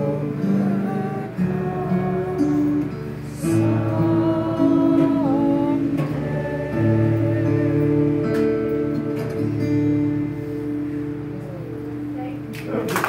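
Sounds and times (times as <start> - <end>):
acoustic guitar playing: 0.0 - 12.9.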